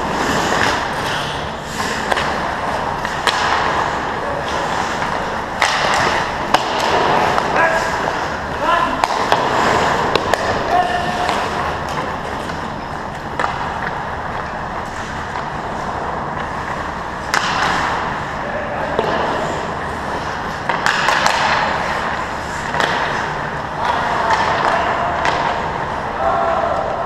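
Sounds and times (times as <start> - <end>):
clacks of sticks and puck: 0.0 - 26.0
skates scraping on ice: 0.0 - 26.1.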